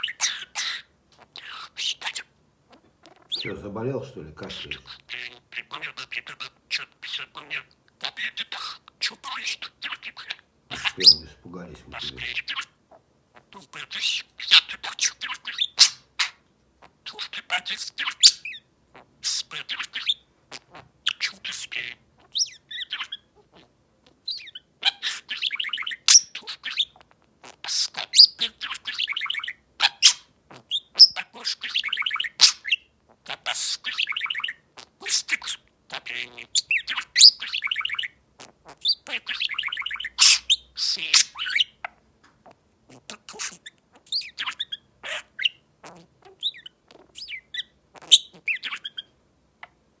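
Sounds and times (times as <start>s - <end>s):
bird chirping and chattering: 0.0s - 3.6s, 4.4s - 49.8s.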